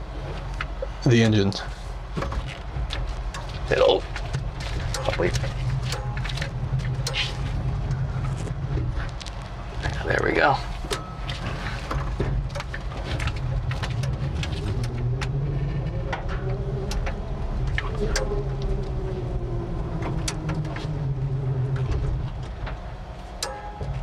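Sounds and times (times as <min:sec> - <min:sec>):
tyres and chassis rumbling: 0:00.0 - 0:24.0
body rattles and clicks: 0:00.1 - 0:24.0.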